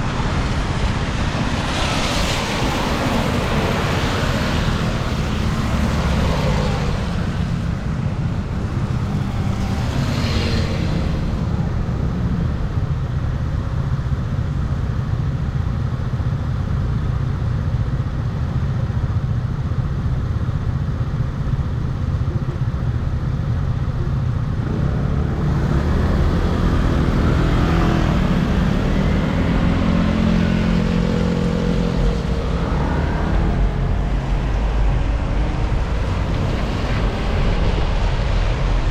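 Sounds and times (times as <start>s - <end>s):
traffic: 0.0s - 38.9s
vehicle engine: 0.0s - 38.9s
wind rumbling on microphone: 0.0s - 38.9s.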